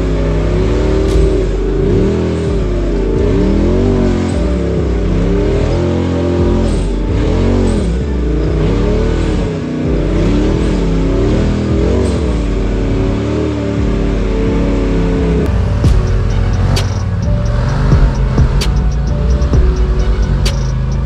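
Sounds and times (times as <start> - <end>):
engine revving up and down: 0.0 - 21.0.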